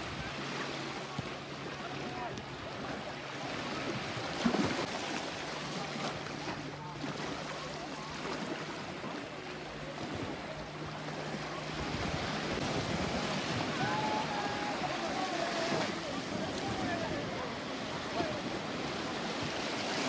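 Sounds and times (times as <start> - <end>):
small waves washing ashore: 0.0 - 20.0.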